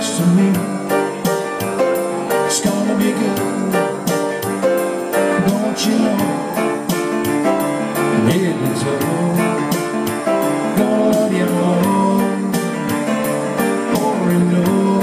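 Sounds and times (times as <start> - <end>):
keyboard playing sustained chords: 0.0 - 15.0
steady drum beat: 0.0 - 15.0.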